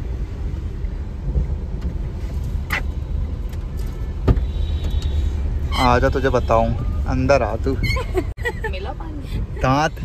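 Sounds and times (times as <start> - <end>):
street rumble: 0.0 - 10.0.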